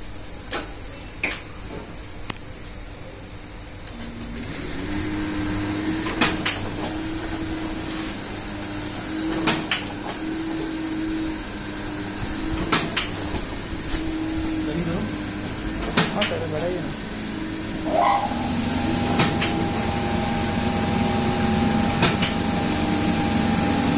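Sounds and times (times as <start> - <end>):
machine motor hum: 3.7 - 23.9.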